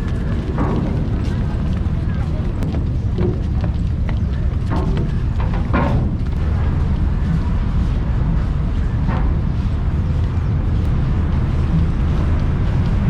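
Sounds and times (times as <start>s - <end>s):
vehicle and ferry engines rumbling: 0.0s - 13.0s.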